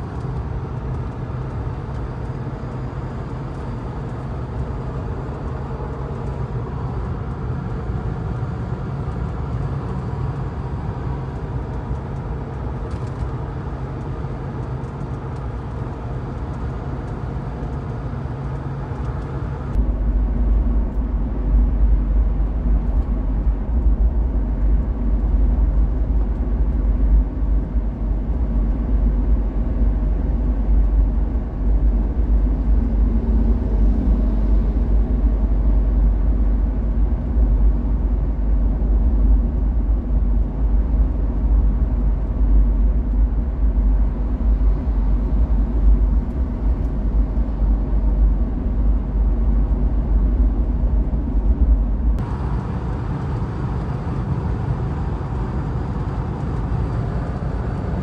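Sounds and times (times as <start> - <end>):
engine drone: 0.0 - 58.0
road rumble and tyre noise: 0.0 - 58.0
wind: 0.0 - 58.0.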